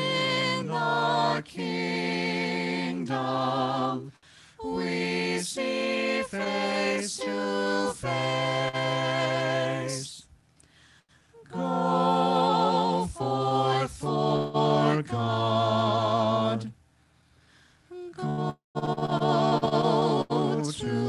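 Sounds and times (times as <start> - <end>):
vocal group singing a hymn: 0.0 - 10.3, 11.3 - 16.8, 17.9 - 21.0.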